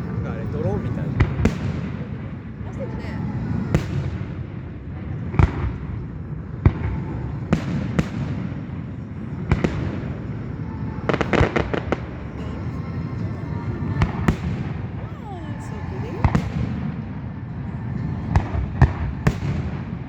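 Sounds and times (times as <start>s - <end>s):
fireworks booming: 0.0s - 20.0s
steady low rumble: 0.0s - 20.0s
rapid fireworks pops: 1.2s - 2.3s, 3.5s - 15.0s, 15.9s - 20.0s.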